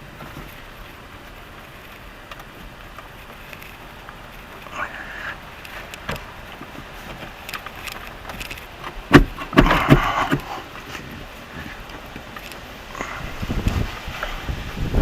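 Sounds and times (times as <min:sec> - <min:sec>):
clattering and scraping: 0:00.0 - 0:14.4
faint wind noise: 0:00.0 - 0:15.0.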